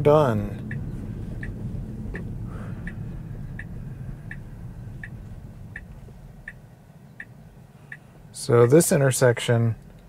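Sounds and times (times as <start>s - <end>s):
road rumble inside car: 0.0s - 10.0s
turn signal ticking: 0.0s - 10.0s.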